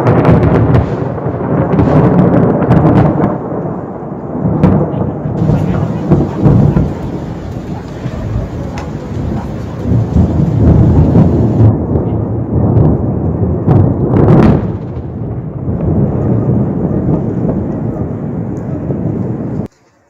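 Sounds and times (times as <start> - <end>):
thunder crack: 0.0 - 19.7
thunder rumbling: 0.0 - 19.7.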